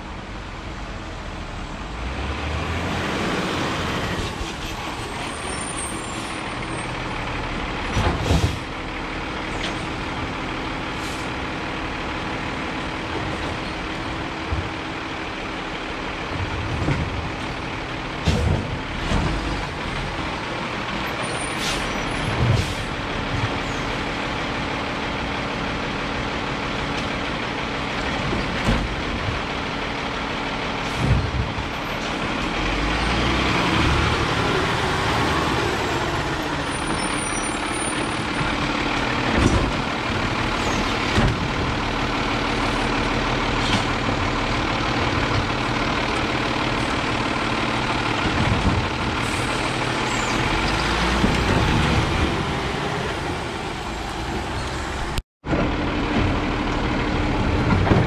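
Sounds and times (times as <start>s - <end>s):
garbage truck diesel engine: 0.0s - 58.0s.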